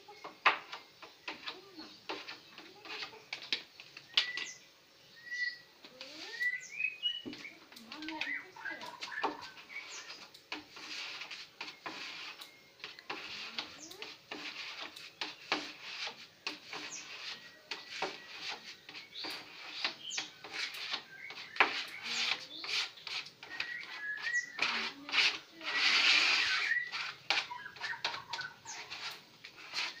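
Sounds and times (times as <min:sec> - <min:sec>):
pad rubbing on wooden table: 0:00.2 - 0:03.7, 0:07.2 - 0:30.0.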